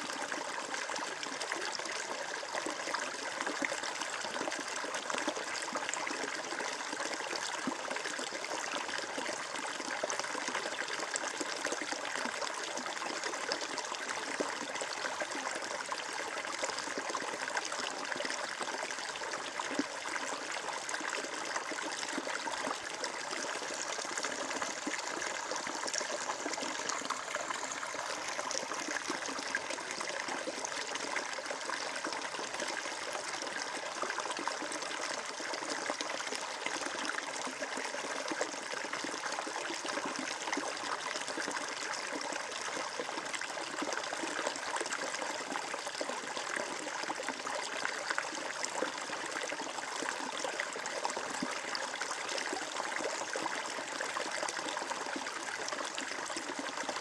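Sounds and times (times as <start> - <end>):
stream water flowing over stones: 0.0 - 57.0.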